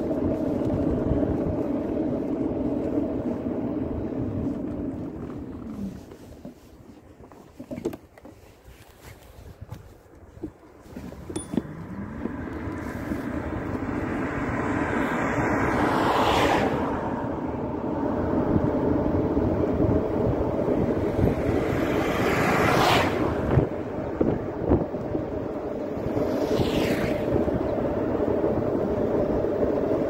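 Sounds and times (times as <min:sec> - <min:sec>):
cars passing with whoosh: 0:00.0 - 0:07.3, 0:08.9 - 0:30.0
rushing road noise: 0:00.0 - 0:30.0.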